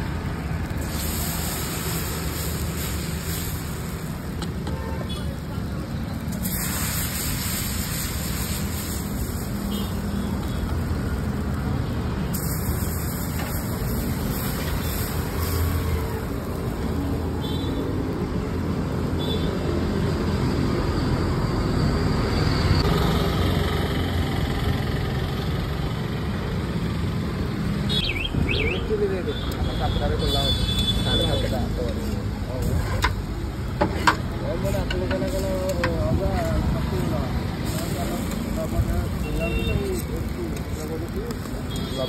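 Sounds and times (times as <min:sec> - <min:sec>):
crepes sizzling on griddle: 0:00.0 - 0:20.8, 0:28.9 - 0:42.0.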